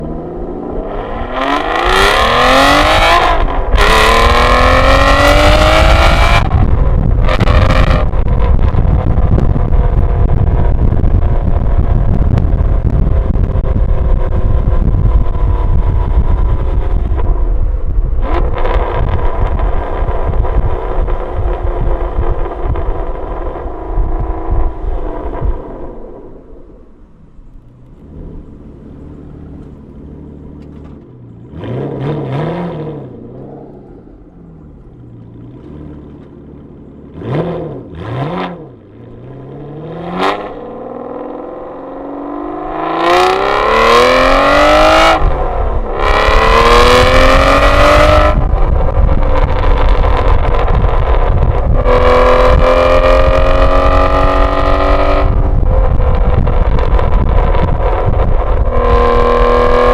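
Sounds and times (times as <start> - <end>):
car engine revving and accelerating: 0.0 - 17.6, 27.8 - 59.9.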